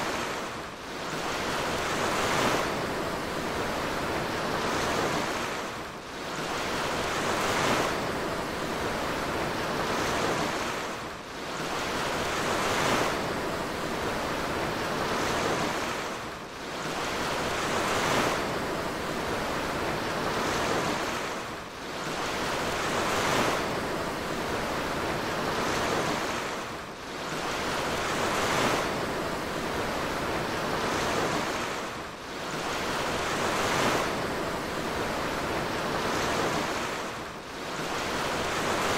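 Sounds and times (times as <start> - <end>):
ship wake water rushing: 0.0 - 38.9
wind: 0.0 - 38.9.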